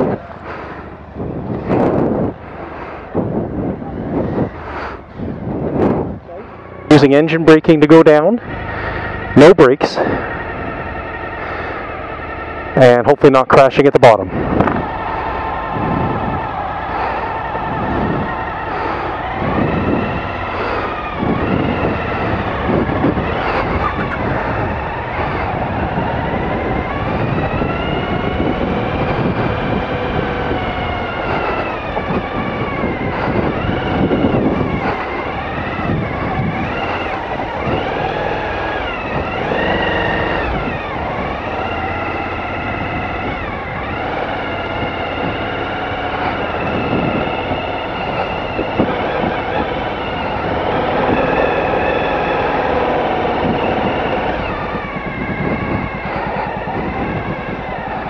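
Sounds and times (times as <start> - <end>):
low rumbling wind: 0.0 - 58.0
motorcycle engines revving: 0.0 - 58.0.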